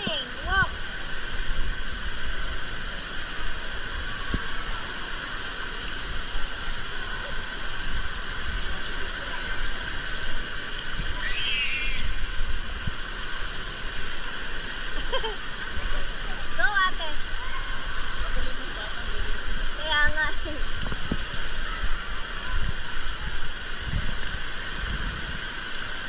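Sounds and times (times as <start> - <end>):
spraying fountains and splashing water: 0.0 - 26.0.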